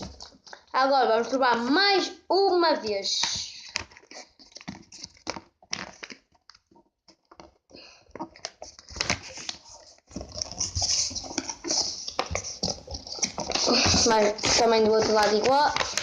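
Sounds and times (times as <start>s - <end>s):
paper crinkling and rustling: 3.1s - 16.0s.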